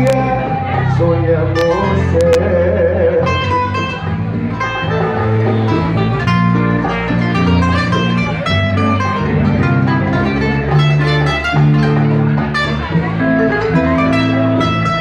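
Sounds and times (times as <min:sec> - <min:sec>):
band ballad with guitar and bass: 0:00.0 - 0:15.0.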